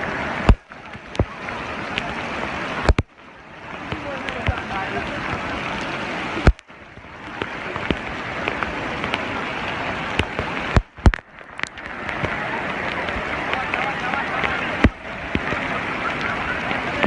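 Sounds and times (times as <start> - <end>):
raindrops ticking on surfaces: 0.0 - 17.0
steady rain falling: 0.0 - 17.0.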